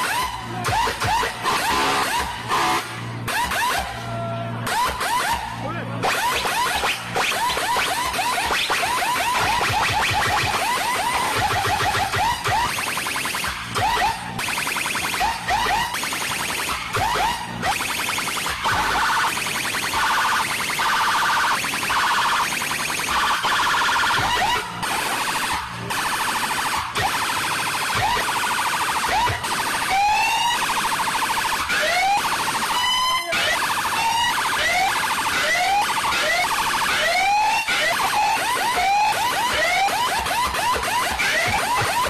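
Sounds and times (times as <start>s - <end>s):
electronic siren effect: 0.0s - 42.0s.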